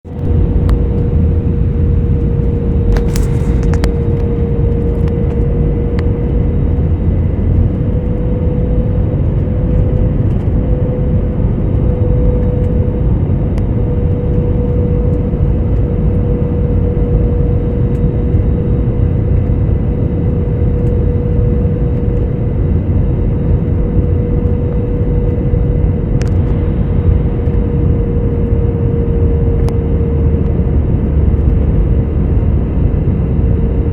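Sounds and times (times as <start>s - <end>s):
jet engines and airflow rushing: 0.1s - 33.9s.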